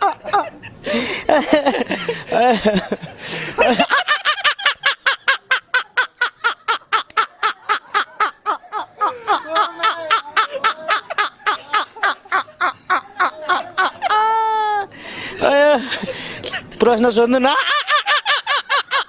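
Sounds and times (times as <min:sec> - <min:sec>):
men laughing hard: 0:00.0 - 0:16.8, 0:17.4 - 0:19.0.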